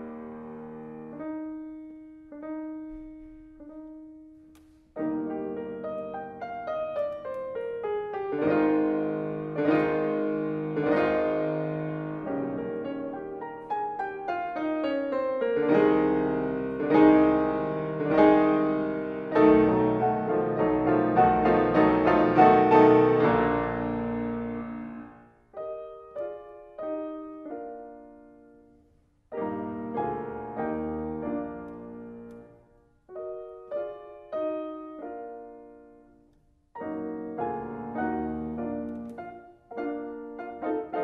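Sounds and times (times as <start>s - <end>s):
grand pianos playing classical music: 0.0s - 41.0s.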